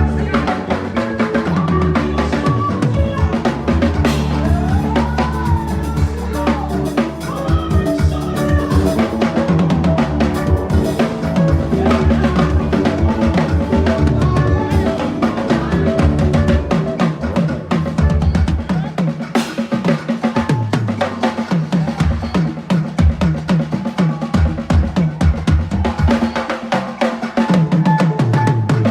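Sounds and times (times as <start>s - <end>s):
fast busy drumming: 0.0s - 28.9s.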